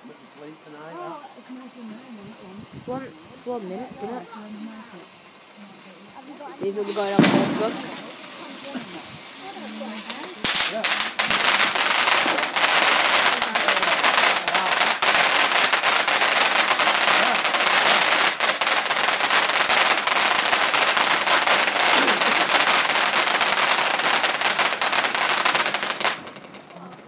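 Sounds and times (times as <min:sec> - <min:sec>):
rapid-fire fireworks cracking: 0:04.1 - 0:27.0.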